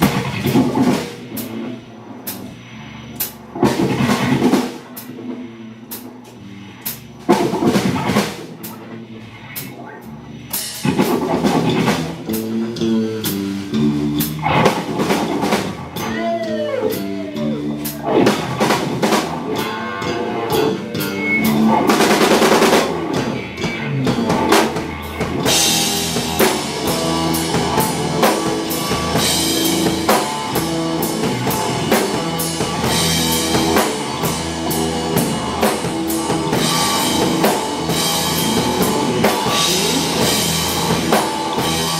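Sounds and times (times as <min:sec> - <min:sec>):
distorted electric guitar: 0:00.0 - 0:41.9
drum kit: 0:00.0 - 0:41.9.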